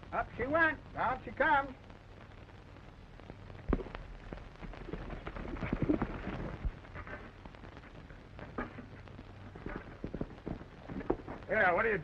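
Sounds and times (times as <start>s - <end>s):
doused campfire hissing: 0.0s - 12.0s.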